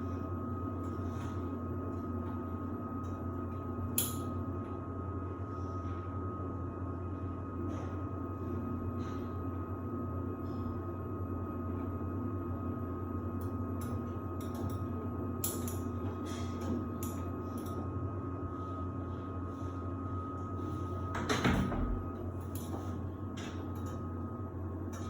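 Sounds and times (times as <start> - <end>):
washer-dryer hum and whine: 0.0 - 25.0.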